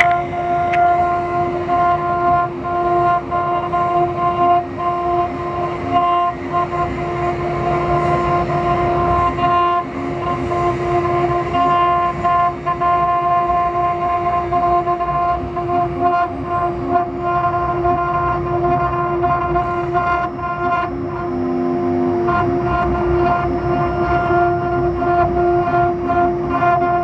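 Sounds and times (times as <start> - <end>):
router spindle whining: 0.0 - 27.0.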